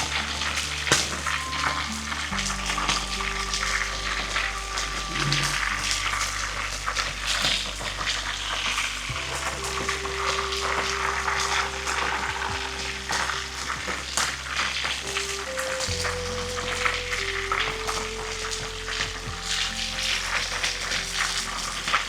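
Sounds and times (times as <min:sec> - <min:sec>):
food sizzling in a hot pan: 0:00.0 - 0:22.0.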